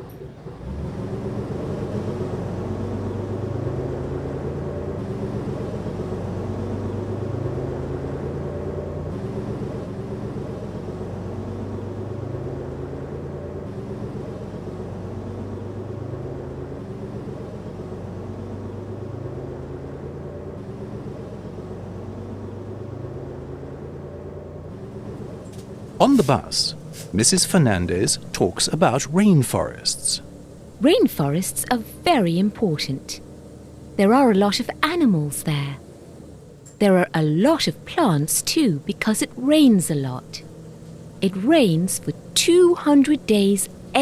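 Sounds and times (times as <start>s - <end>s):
bus engine running: 0.0s - 44.0s.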